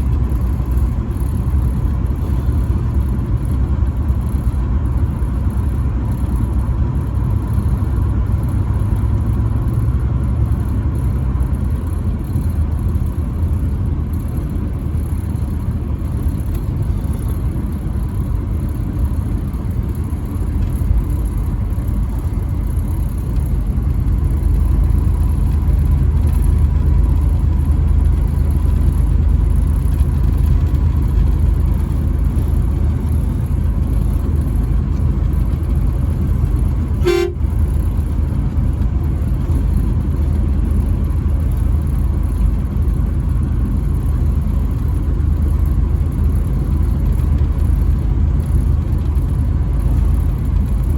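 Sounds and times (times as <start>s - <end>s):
truck engine and road rumble: 0.0s - 50.9s.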